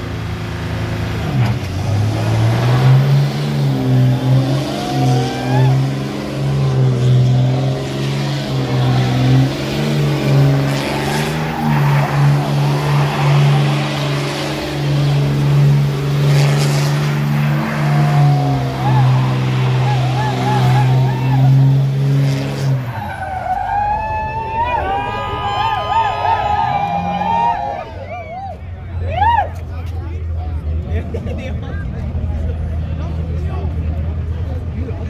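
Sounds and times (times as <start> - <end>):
truck engine revving hard: 0.0 - 28.1
tires spinning on pavement: 0.0 - 35.0.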